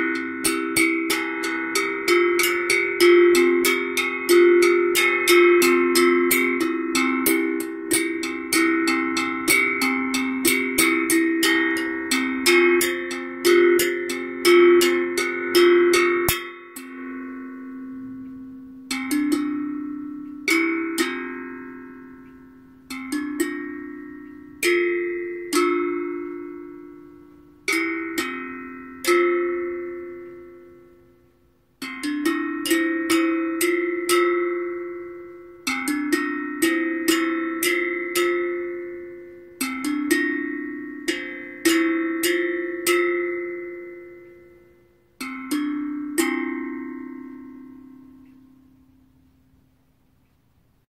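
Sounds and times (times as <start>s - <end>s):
steel tongue drum notes: 0.0s - 50.9s.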